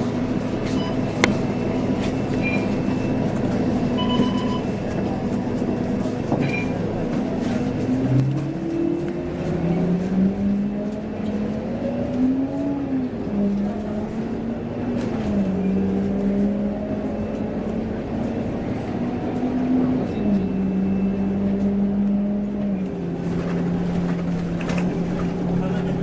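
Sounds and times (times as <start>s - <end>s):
bus diesel engine droning: 0.0s - 26.0s
road noise: 0.0s - 26.0s.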